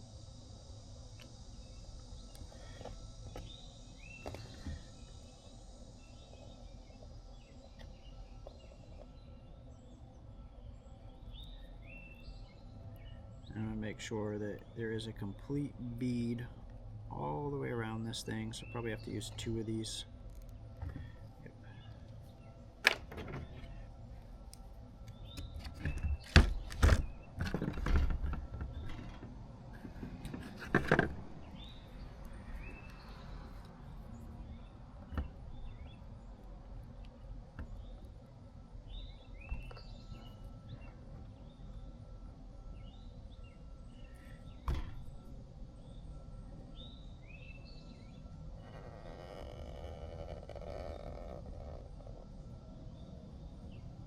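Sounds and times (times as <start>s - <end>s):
small birds chirping: 0.2s - 22.8s, 25.0s - 27.8s, 31.4s - 44.9s, 45.6s - 54.0s.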